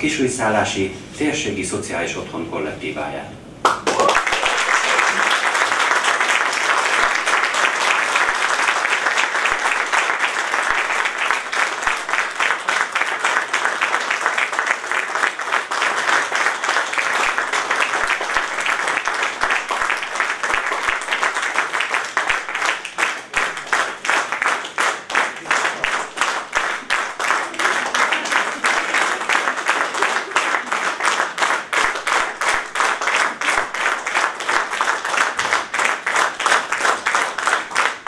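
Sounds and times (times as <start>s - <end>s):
audience applauding: 3.6s - 38.0s.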